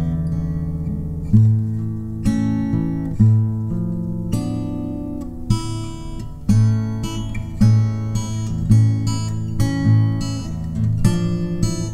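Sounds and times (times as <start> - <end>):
acoustic guitar strumming chords: 0.0 - 11.9.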